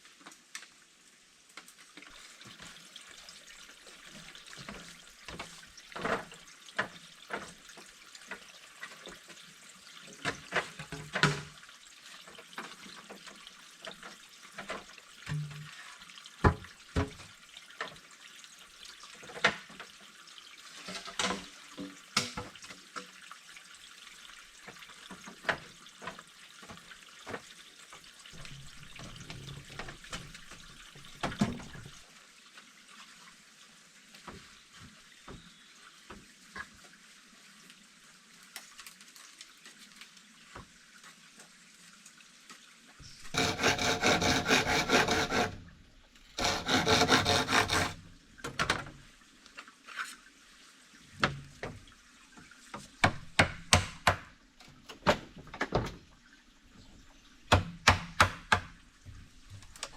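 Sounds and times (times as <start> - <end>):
water splashing and trickling: 0.0 - 59.9.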